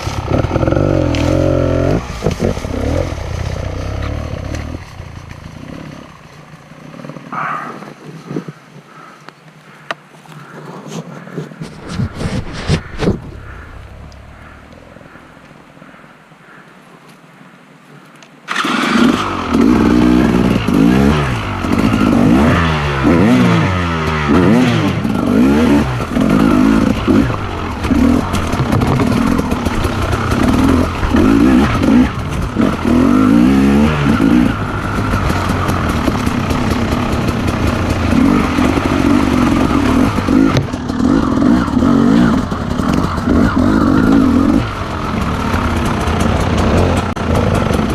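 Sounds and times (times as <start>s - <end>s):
motorcycle engine revving: 0.0s - 7.9s, 11.7s - 15.2s, 18.5s - 47.9s.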